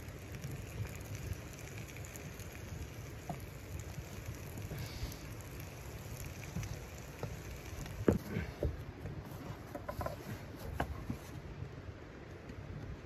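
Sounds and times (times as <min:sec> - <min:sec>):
fat popping and crackling: 0:00.0 - 0:11.2.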